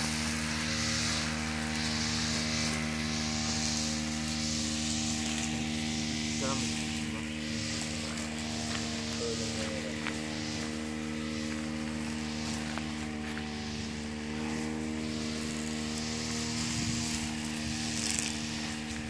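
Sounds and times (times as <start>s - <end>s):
brush cutter engine running: 0.0s - 19.0s.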